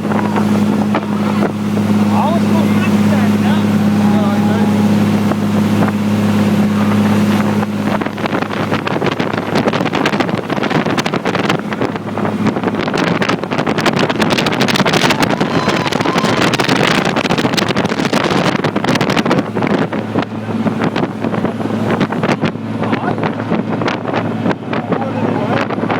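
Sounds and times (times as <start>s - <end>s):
motorboat engine running: 0.0s - 25.9s
wind buffeting microphone: 0.0s - 25.9s.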